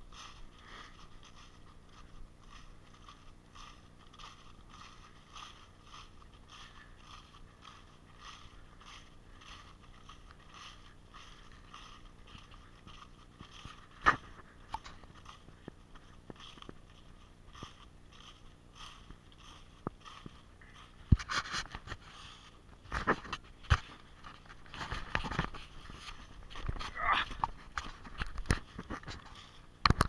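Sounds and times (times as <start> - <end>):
footsteps crunching dry leaves: 0.0 - 30.0.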